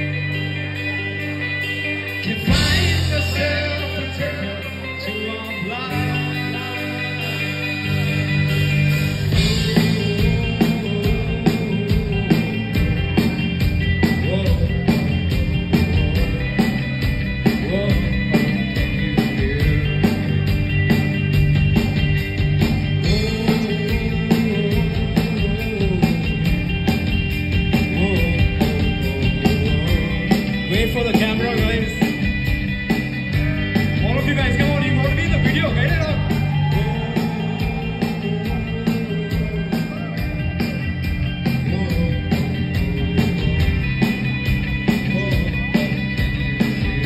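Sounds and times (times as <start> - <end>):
electric guitar: 0.0 - 47.0
keyboard: 0.0 - 47.0
live rock band instrumental: 0.0 - 47.0
drum kit beat: 2.2 - 4.6, 5.2 - 47.0.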